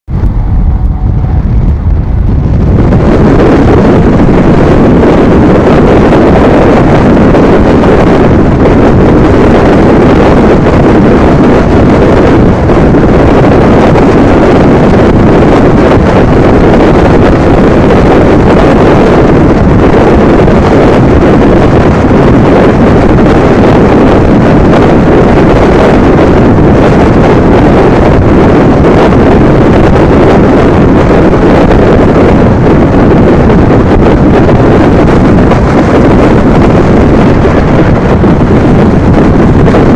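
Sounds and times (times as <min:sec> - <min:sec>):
moving train running noise: 0:00.0 - 0:39.9
wind buffeting microphone: 0:00.0 - 0:39.9.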